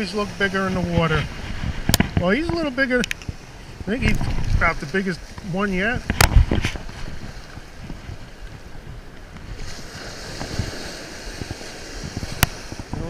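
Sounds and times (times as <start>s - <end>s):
surf washing up beach: 0.0s - 13.0s
wind rumbling on microphone: 0.0s - 13.0s.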